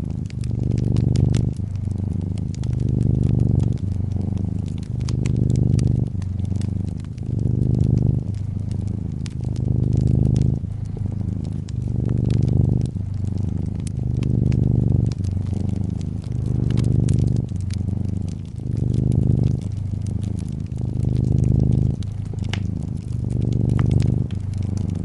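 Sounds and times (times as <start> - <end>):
cat purring: 0.0 - 25.0
fireplace crackling and popping: 0.0 - 25.0.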